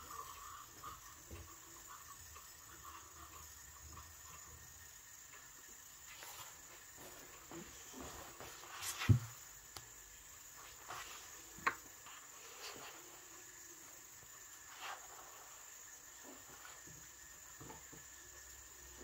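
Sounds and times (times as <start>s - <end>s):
spinning yoyo whine: 0.0s - 19.0s.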